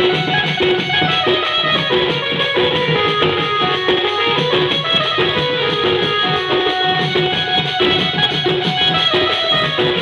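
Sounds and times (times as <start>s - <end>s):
drums beaten with sticks: 0.0s - 10.0s.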